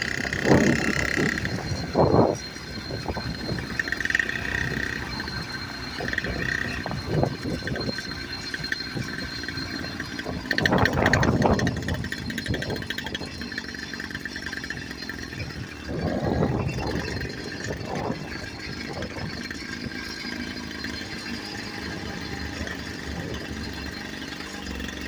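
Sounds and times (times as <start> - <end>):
small motorbike engine running: 0.0 - 25.0.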